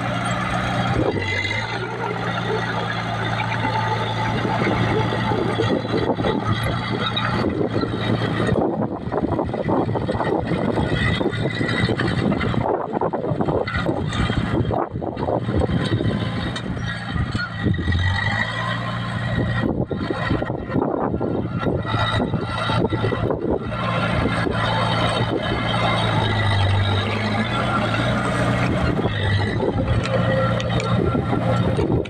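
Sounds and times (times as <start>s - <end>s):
bulldozer engine running: 0.0s - 32.0s.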